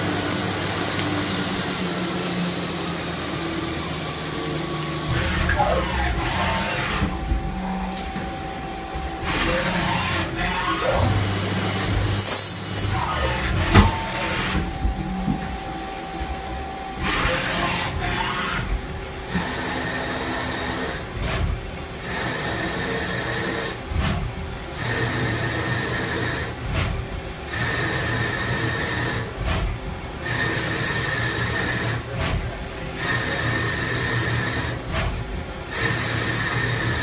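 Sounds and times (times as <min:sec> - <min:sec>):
lathe machining whine: 0:00.0 - 0:37.0.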